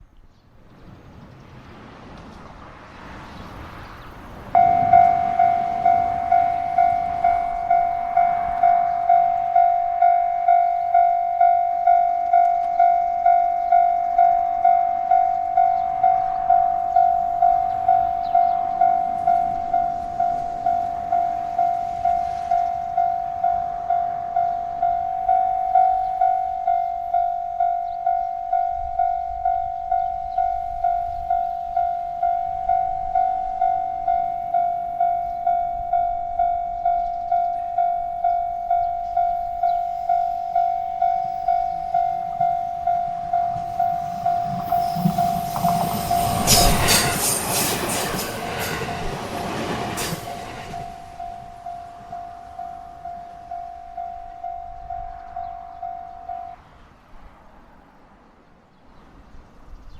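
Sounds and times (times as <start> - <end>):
level crossing warning bell: 4.5 - 57.3.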